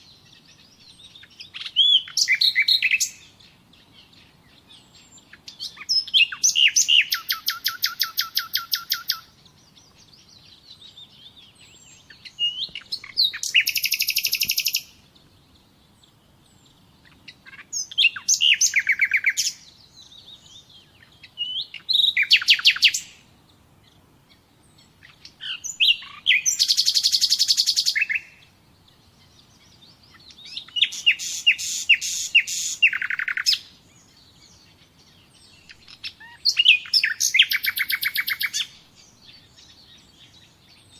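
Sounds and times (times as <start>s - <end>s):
songbird trilling: 0.0s - 40.9s.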